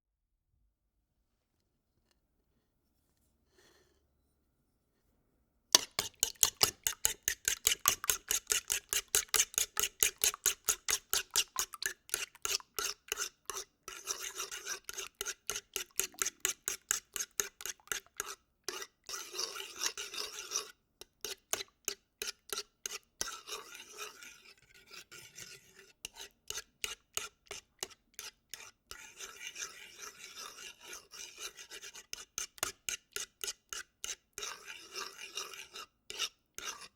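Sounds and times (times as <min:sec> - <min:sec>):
utensil scraping dish stirring eggs: 0:05.8 - 0:36.9.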